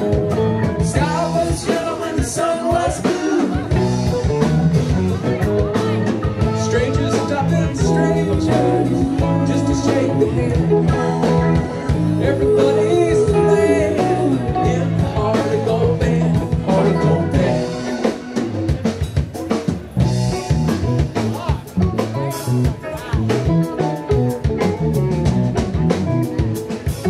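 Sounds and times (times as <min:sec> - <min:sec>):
drum kit beat: 0:00.0 - 0:27.0
electric guitars: 0:00.0 - 0:27.0.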